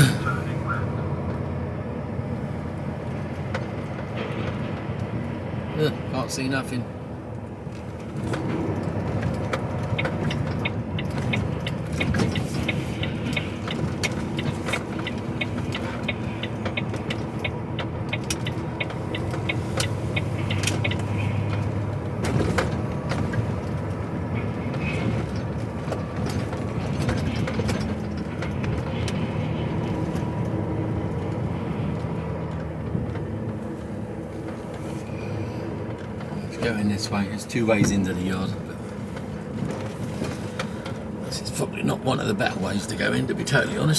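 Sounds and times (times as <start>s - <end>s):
diesel engine running: 0.0s - 43.9s
road noise: 0.0s - 43.9s.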